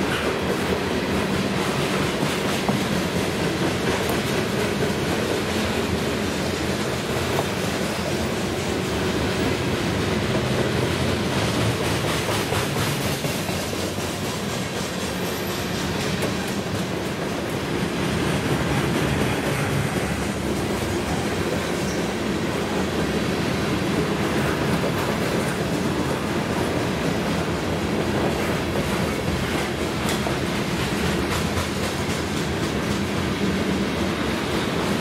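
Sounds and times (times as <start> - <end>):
wheels clacking over rail joints: 0.0 - 33.7
train wheels rumbling on rails: 0.0 - 35.0.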